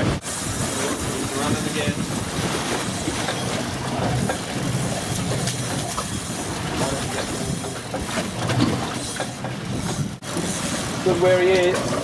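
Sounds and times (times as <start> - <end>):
outboard motor running: 0.0 - 12.0
water noise: 0.0 - 12.0
wind: 0.0 - 12.0.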